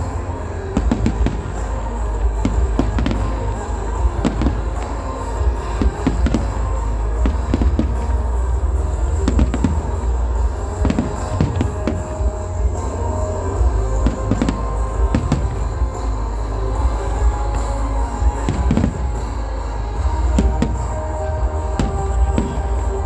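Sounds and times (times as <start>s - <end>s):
fireworks bursting and crackling: 0.0s - 23.0s
music playing: 0.0s - 23.0s.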